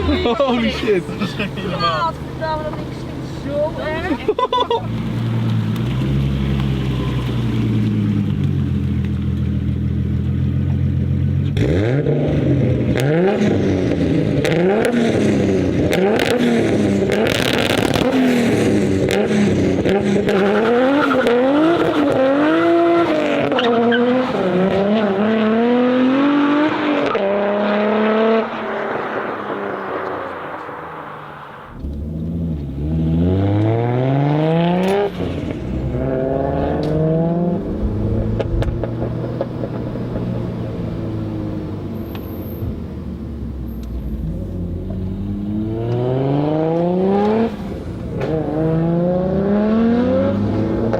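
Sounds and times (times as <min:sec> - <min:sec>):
exhaust cracks: 0:00.0 - 0:25.6, 0:26.4 - 0:48.6
car engine revving: 0:00.0 - 0:50.9.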